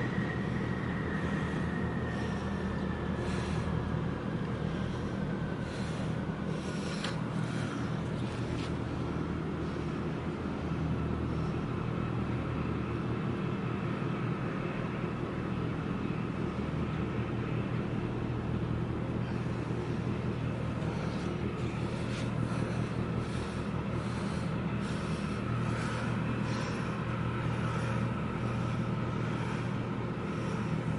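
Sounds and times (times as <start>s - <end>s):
ship engines droning: 0.0s - 30.9s.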